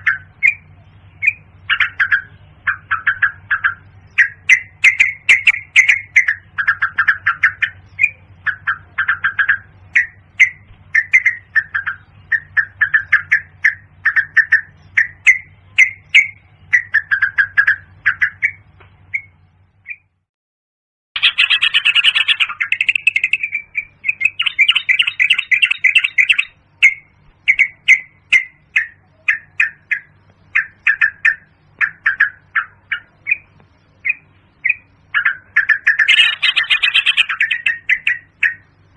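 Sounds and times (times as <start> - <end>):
bird chirping rapidly: 0.0 - 20.2, 21.2 - 38.9
faint low hum: 0.0 - 20.3, 21.2 - 38.9.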